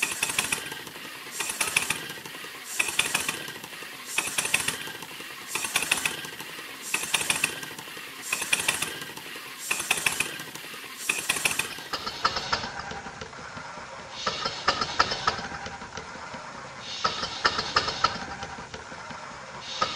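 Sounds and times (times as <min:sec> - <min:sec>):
steam engine chuffing: 0:00.0 - 0:19.9.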